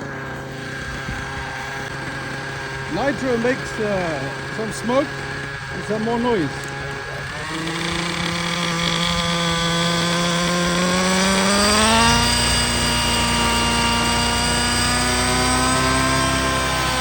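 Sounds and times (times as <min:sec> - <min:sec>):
model helicopter engine running: 0:00.0 - 0:17.0.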